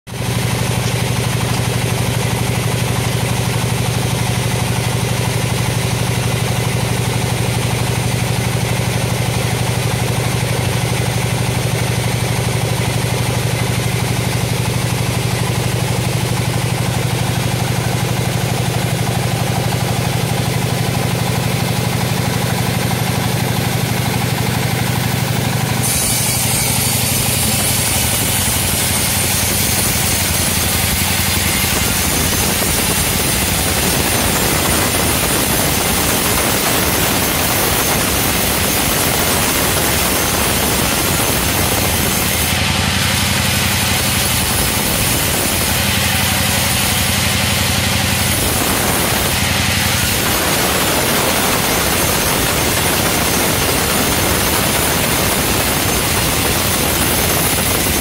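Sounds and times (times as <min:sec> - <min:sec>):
sawmill machinery humming: 0:00.1 - 0:58.0.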